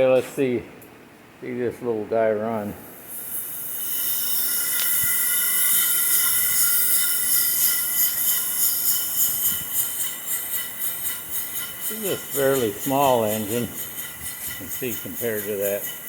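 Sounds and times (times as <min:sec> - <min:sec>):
steam engine hissing: 0:02.6 - 0:16.0.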